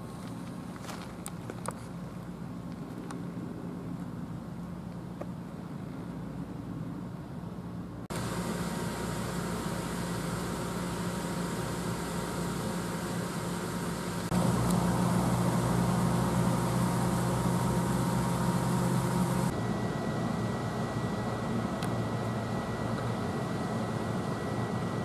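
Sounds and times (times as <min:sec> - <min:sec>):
train electrical hum: 0:00.0 - 0:25.0.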